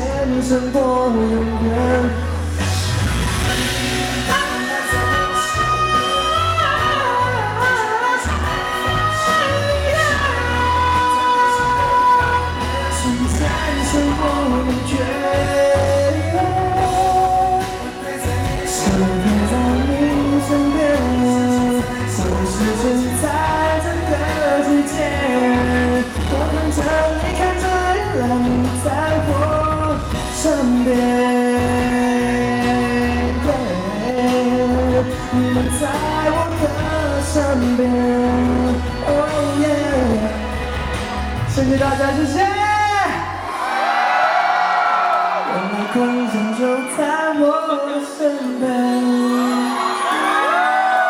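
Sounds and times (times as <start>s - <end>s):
pulsing bass line: 0.0s - 43.2s
person singing: 0.0s - 43.7s, 45.3s - 51.0s
live pop band: 0.0s - 51.0s.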